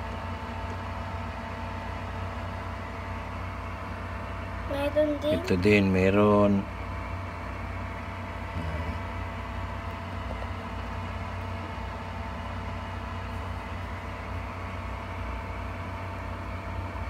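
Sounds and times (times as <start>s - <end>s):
incubator fan humming: 0.0s - 17.0s.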